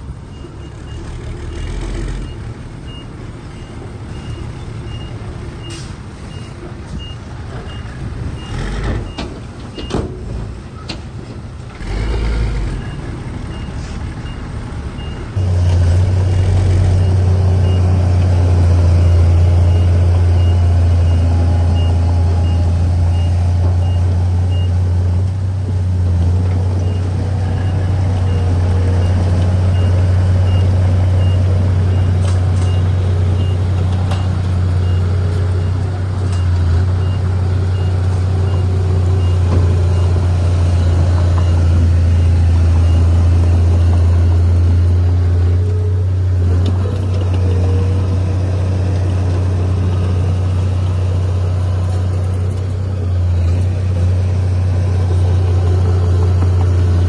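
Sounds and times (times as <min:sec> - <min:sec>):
heavy machinery engine drone: 0:00.0 - 0:57.0.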